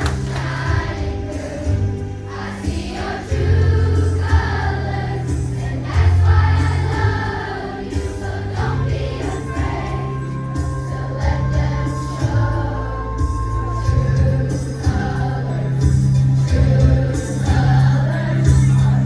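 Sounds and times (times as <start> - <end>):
children's choir singing: 0.0 - 19.0
instrumental accompaniment with bass: 0.0 - 19.0.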